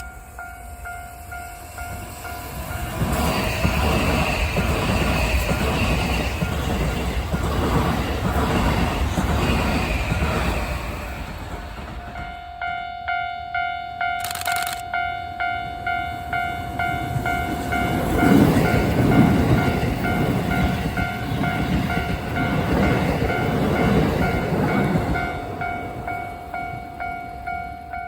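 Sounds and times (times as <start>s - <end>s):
level-crossing warning bell ringing: 0.0s - 28.0s
train rumble and wheel noise: 0.0s - 28.0s.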